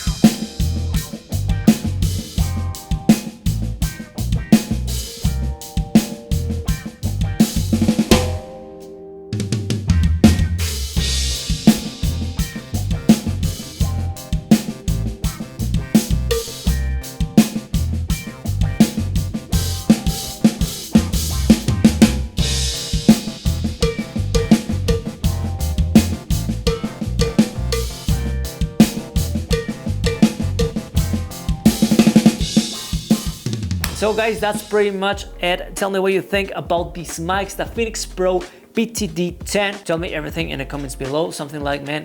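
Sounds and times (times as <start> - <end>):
backing music track: 0.0 - 42.0
drum kit playing: 0.0 - 42.0.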